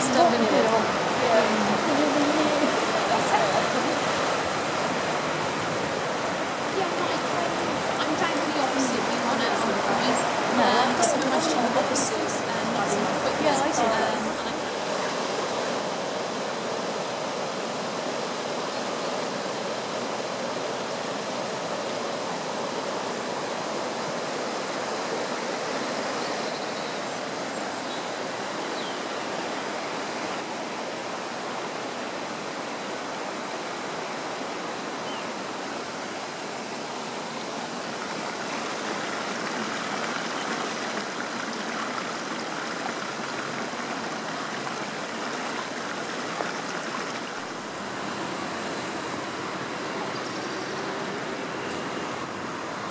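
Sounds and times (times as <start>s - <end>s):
floodwater rushing: 0.0s - 52.9s.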